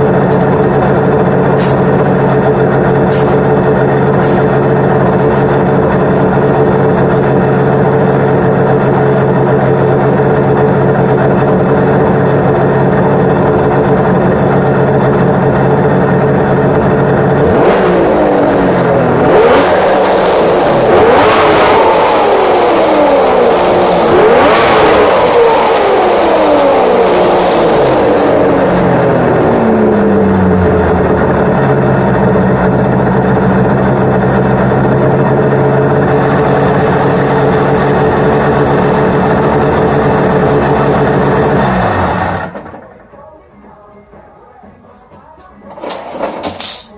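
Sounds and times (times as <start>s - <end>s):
snowmobile engine idling and revving: 0.0s - 42.8s.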